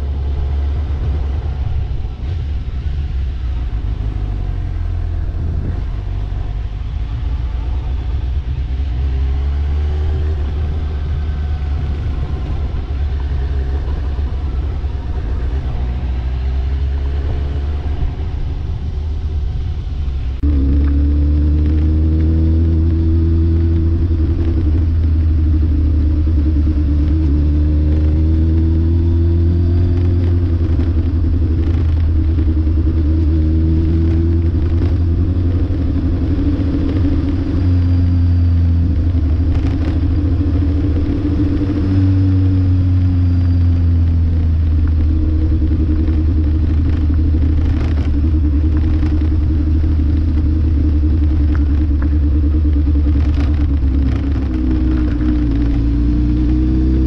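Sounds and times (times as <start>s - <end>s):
deep steady drone: 0.0s - 57.0s
vehicle engine revving: 0.0s - 57.0s.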